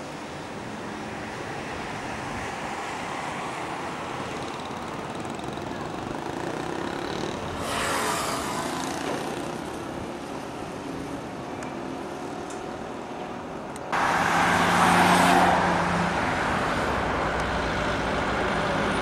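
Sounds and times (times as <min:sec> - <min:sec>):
louder traffic rush: 0:00.0 - 0:19.0
road traffic hum: 0:00.0 - 0:19.0.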